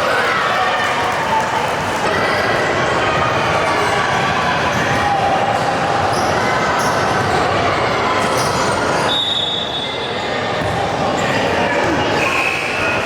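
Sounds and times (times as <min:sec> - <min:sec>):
crowd din in gym: 0:00.0 - 0:13.0.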